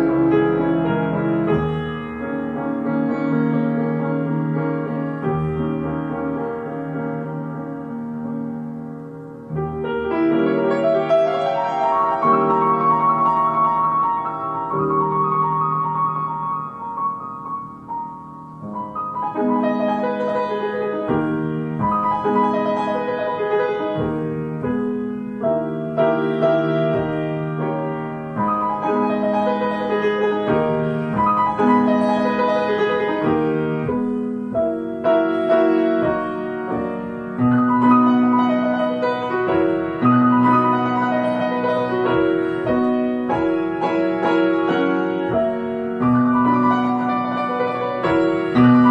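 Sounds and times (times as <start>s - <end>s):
solo grand piano: 0.0s - 48.9s.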